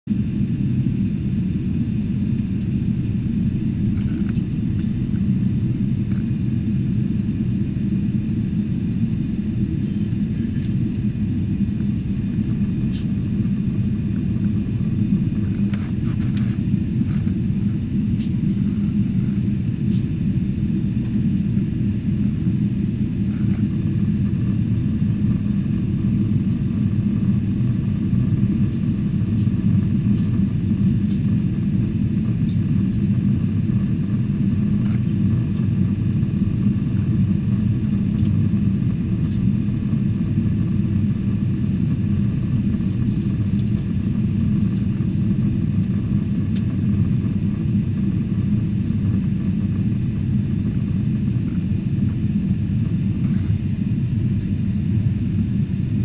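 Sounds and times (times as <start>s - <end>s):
airplane cabin engine rumble: 0.1s - 56.0s.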